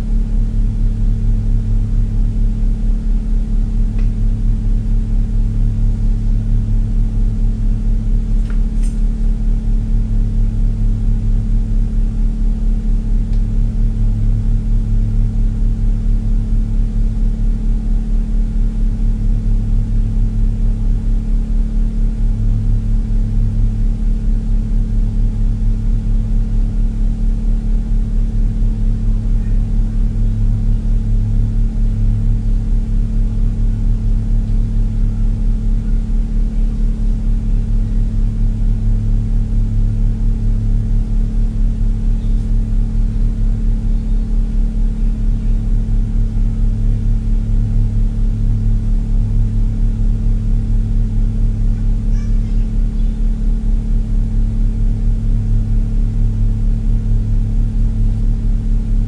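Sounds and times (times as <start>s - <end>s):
loud low pulsing hum: 0.0s - 59.0s.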